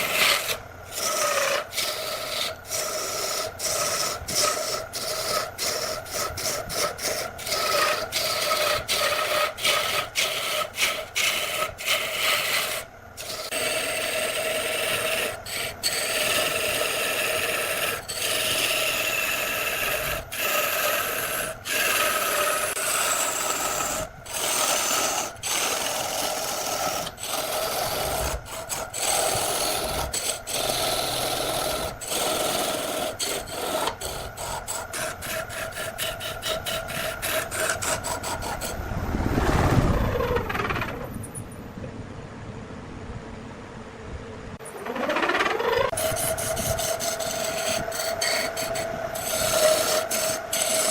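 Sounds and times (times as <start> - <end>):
wood lathe tool scraping: 0.0 - 38.9, 44.6 - 50.9
lathe motor hum: 0.0 - 41.1, 44.6 - 50.9.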